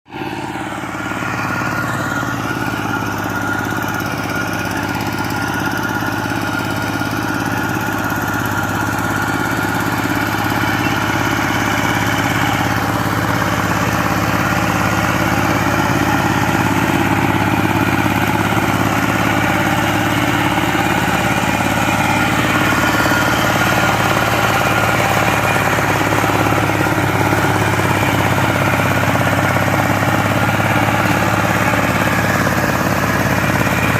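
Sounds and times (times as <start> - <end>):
power tiller engine running: 0.1 - 33.9.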